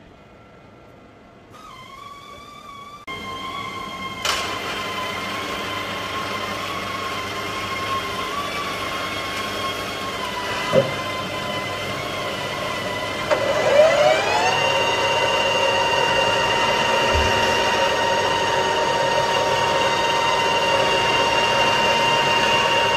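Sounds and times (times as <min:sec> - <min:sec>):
metal lathe whine: 0:01.6 - 0:22.9.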